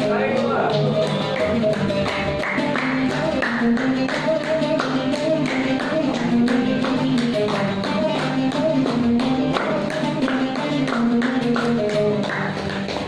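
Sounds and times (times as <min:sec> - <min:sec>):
hand percussion beat: 0:00.0 - 0:13.0
held stepping melody: 0:00.0 - 0:13.0.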